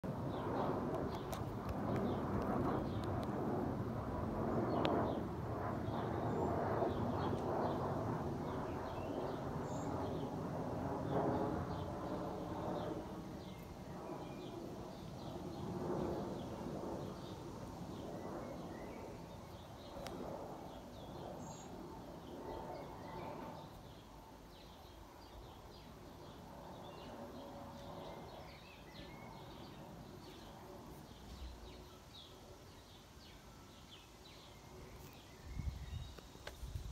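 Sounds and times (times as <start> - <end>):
distant jet rumble: 0.0 - 36.9
small birds chirping: 4.6 - 10.4, 11.0 - 36.9.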